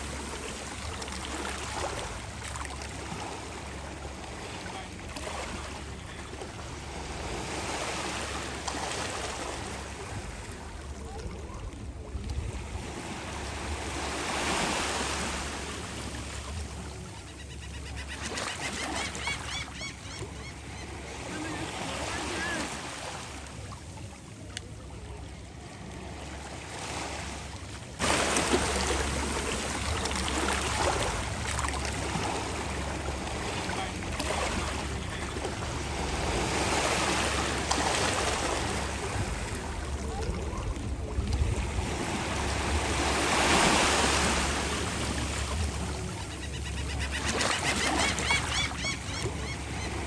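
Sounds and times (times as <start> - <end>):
small waves washing onto beach: 0.0 - 50.0.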